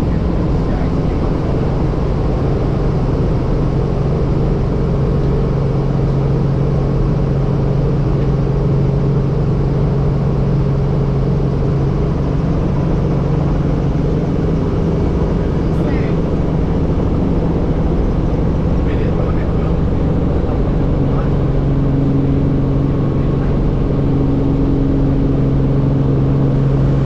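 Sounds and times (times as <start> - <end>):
helicopter engine and rotor drone: 0.0 - 27.0.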